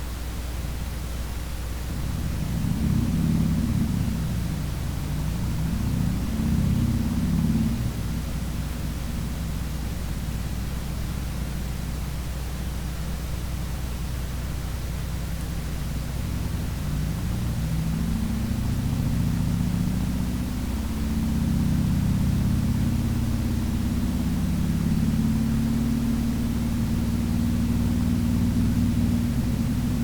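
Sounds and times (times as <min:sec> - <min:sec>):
motorcycle engine running: 0:01.9 - 0:11.9, 0:13.4 - 0:30.0.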